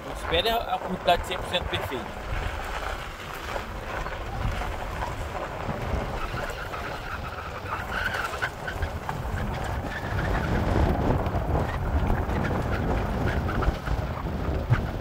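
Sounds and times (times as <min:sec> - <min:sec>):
tyres on gravel road: 0:00.0 - 0:15.0
wind rushing over microphone: 0:00.0 - 0:15.0.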